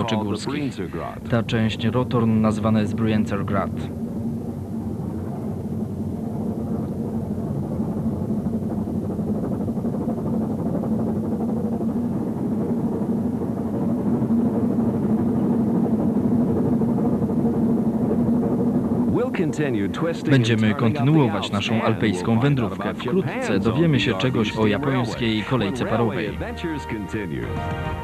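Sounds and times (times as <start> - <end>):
train rumbling and rattling: 0.0 - 28.0.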